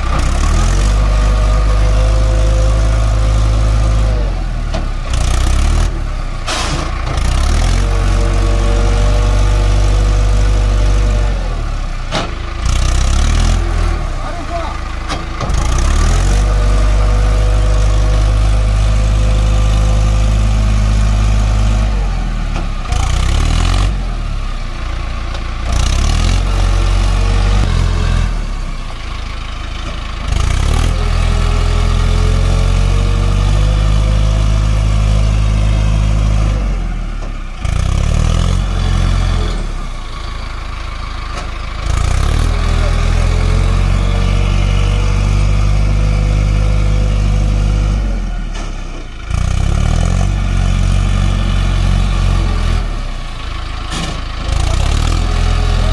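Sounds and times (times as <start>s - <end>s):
tractor diesel engine working hard: 0.0s - 55.9s.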